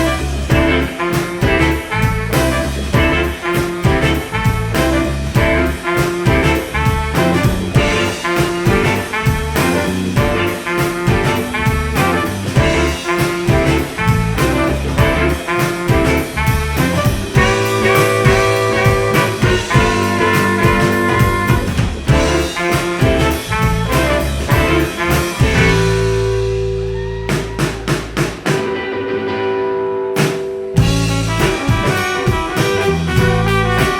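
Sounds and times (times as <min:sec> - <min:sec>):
drum accents: 0:00.0 - 0:28.9, 0:30.2 - 0:33.9
live band playing: 0:00.0 - 0:33.9.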